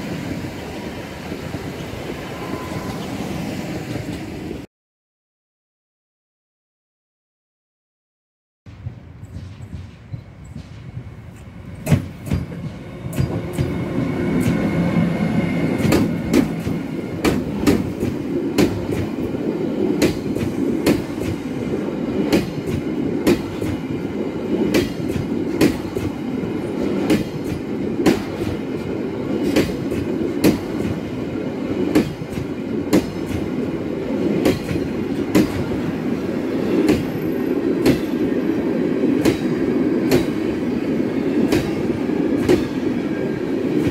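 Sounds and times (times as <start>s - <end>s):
train rumbling past: 0.0s - 4.7s, 8.7s - 43.9s.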